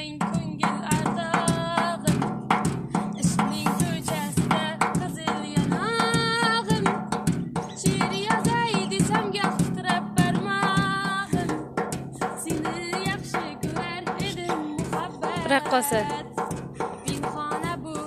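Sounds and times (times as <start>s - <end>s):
girl singing: 0.0s - 2.4s, 3.0s - 7.0s, 7.6s - 18.0s
drum beat: 0.0s - 18.0s.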